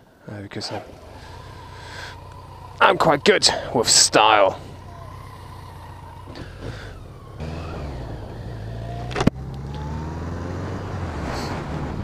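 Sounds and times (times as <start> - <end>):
motorcycle engine accelerating: 0.8 - 12.0.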